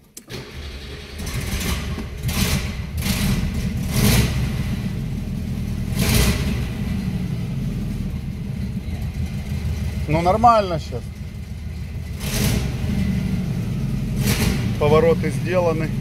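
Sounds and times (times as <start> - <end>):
car engine revving: 0.3 - 16.0.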